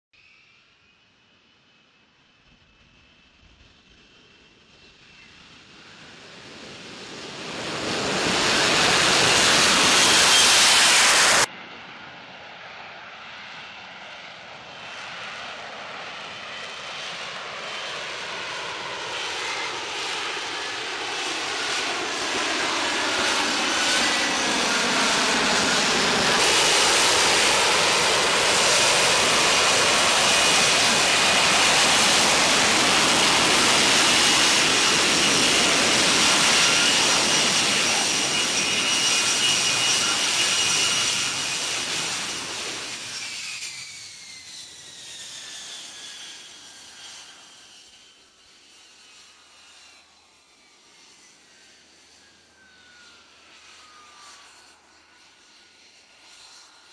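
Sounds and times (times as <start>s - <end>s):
jet engine whine: 0.2s - 56.9s
jet engine roaring: 3.1s - 56.9s.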